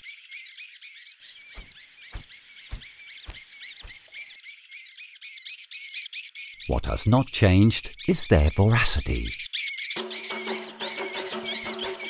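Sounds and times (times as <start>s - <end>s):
young kestrels calling: 0.0s - 12.0s.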